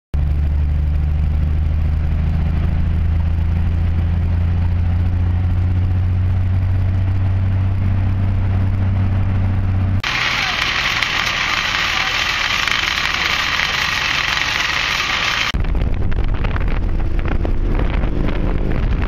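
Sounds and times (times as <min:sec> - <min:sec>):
vehicle engine drone: 0:00.2 - 0:19.0.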